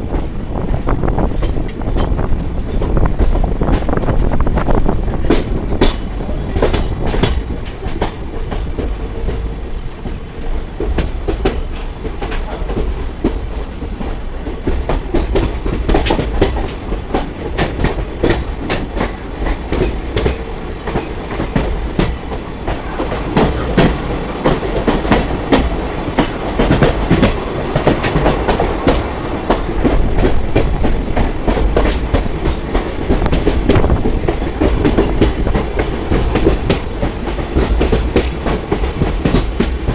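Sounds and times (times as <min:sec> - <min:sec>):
clatter over rail joints: 0:00.0 - 0:39.9
train wheels rumbling on rails: 0:00.0 - 0:39.9.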